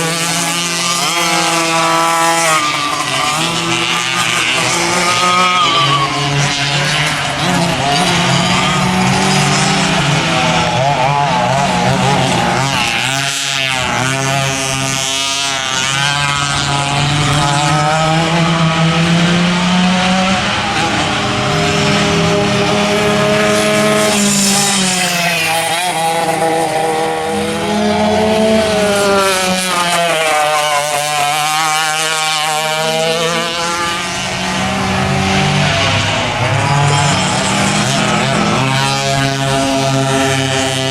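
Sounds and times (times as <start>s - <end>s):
go-kart engines running hard: 0.0s - 40.9s.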